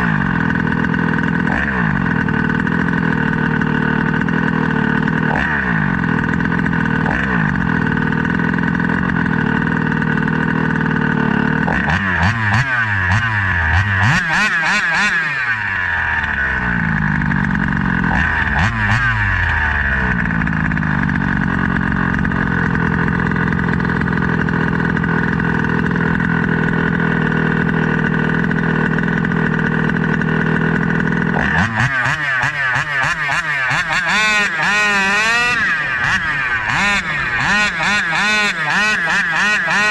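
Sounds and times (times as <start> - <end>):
two-stroke engine at high revs: 0.0 - 39.9.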